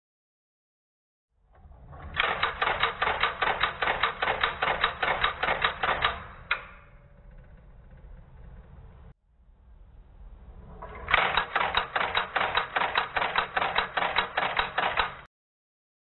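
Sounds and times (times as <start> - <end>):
faint rattle: 1.5 - 15.3.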